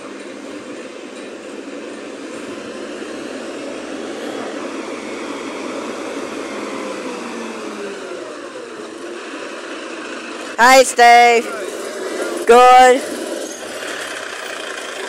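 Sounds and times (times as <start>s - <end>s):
garbage truck diesel engine hum: 0.0s - 15.0s.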